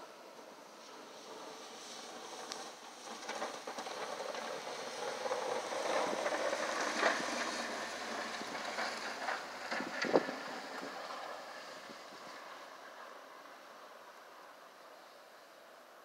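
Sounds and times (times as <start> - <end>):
pickup truck driving past: 0.9 - 15.7.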